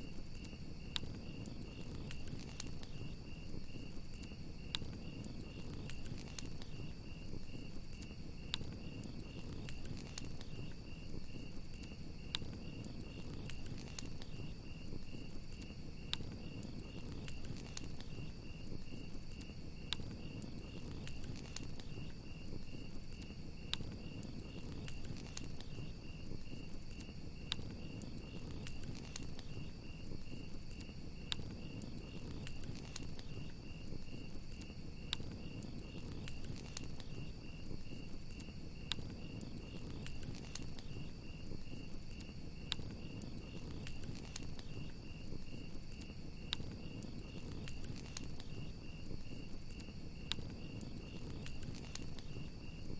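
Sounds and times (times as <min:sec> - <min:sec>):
campfire crackling: 0:00.0 - 0:52.9
crickets chirping: 0:00.0 - 0:52.9.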